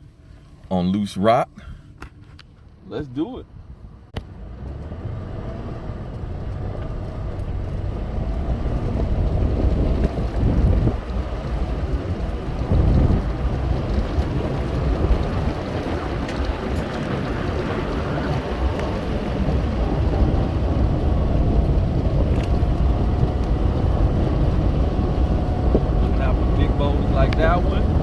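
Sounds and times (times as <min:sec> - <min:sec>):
engine rumble: 0:00.0 - 0:28.0.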